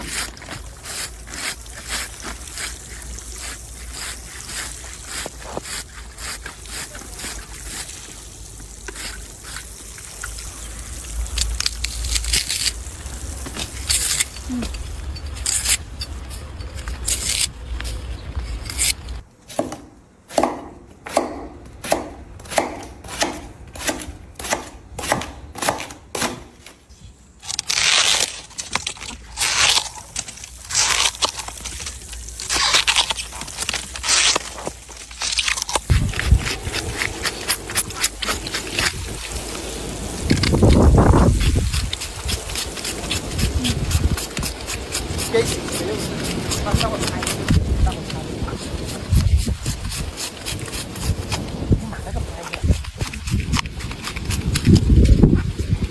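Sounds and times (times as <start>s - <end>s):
blade cutting something crunchy: 0.0s - 19.2s, 27.4s - 55.3s.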